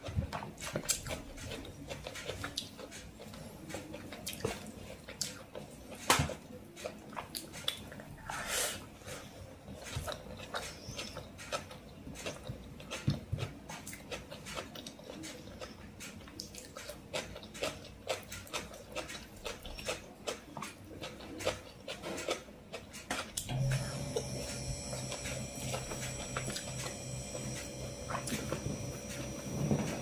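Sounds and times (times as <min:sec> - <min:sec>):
wet chewing: 0:00.0 - 0:30.0.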